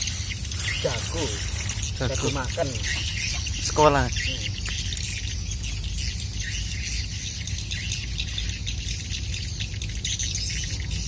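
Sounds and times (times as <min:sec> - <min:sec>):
birds chirping: 0:00.0 - 0:11.0
insects chirping: 0:00.0 - 0:11.0.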